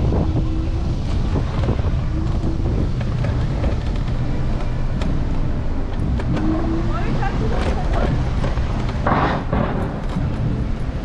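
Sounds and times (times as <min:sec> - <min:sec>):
city street traffic: 0:00.0 - 0:11.0
wind buffeting microphone: 0:00.0 - 0:11.0.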